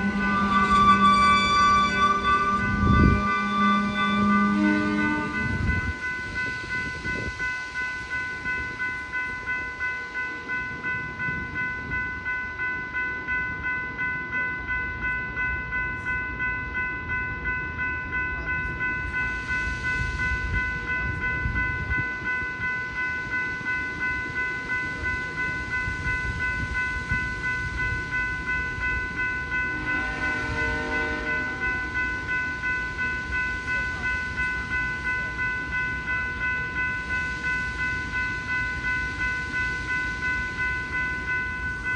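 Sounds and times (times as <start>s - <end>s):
low train rumble: 0.0s - 41.9s
railroad crossing bell ringing: 0.0s - 41.9s.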